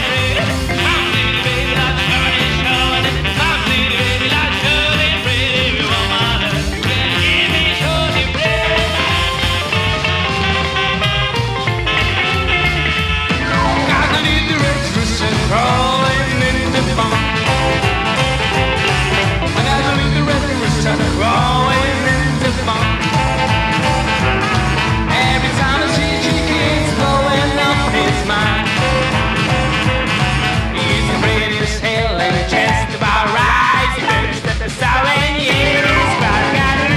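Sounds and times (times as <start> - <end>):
rockabilly band playing: 0.0 - 36.9.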